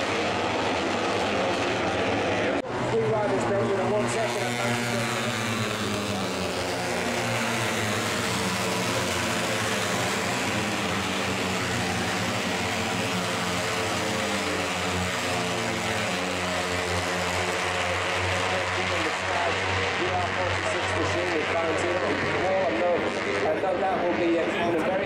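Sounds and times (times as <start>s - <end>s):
racing motorcycles at high revs: 0.0s - 24.3s.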